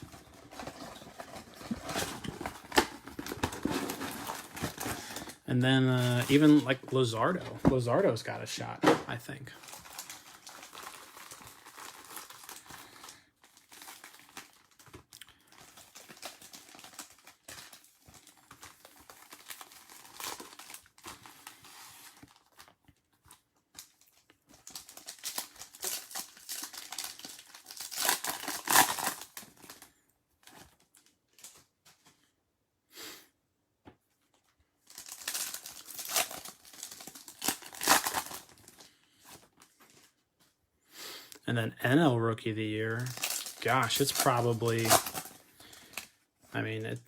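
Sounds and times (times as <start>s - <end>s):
wrappers crinkling and tearing: 0.0s - 32.1s, 34.8s - 40.2s, 42.7s - 47.0s.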